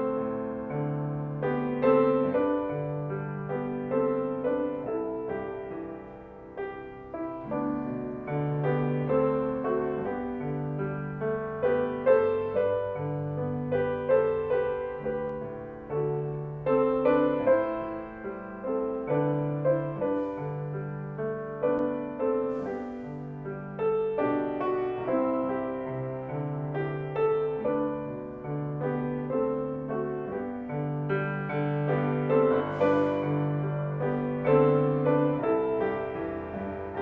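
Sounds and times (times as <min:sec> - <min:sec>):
slow grand piano piece: 0:00.0 - 0:37.0.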